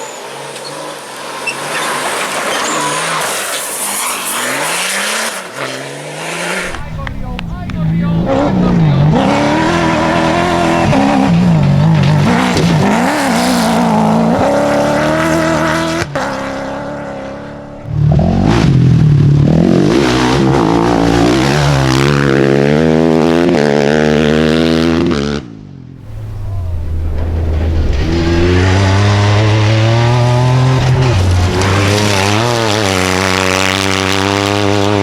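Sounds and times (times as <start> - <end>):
car engines revving at full throttle: 0.0 - 35.0.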